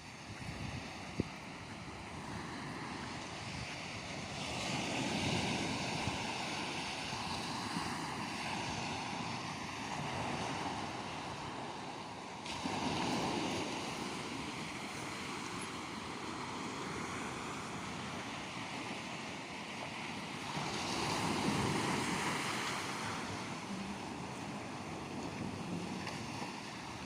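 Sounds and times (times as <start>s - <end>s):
sea waves washing ashore: 0.0s - 27.0s
wind on microphone: 0.0s - 27.0s.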